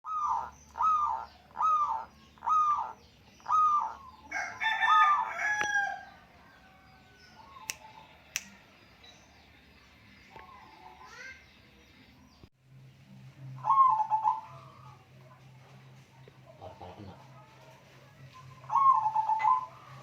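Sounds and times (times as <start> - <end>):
birds calling: 0.0 - 12.5, 13.4 - 20.0.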